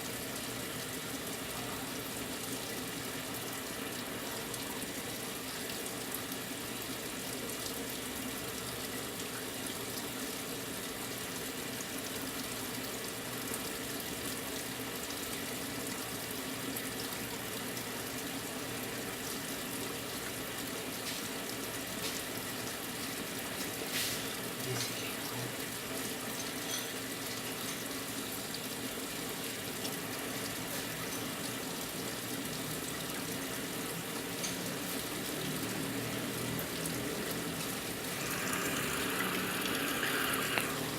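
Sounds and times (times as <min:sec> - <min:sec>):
washing machine filling with water: 0:00.0 - 0:40.9.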